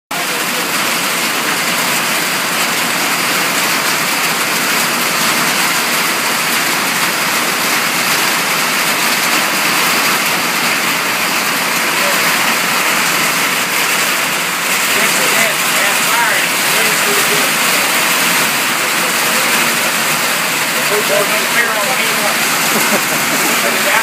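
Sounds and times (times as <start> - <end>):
rain pouring: 0.1 - 24.0.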